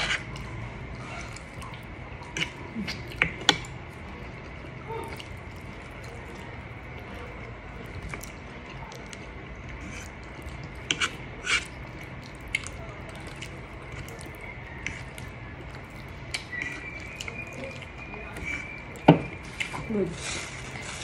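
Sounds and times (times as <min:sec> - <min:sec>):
wet chewing and lip smacks: 0:00.0 - 0:19.8.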